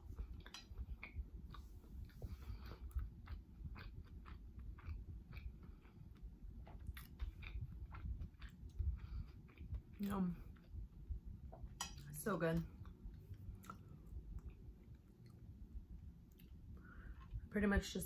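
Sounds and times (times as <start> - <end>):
person chewing food: 0.0 - 12.1, 12.8 - 17.4.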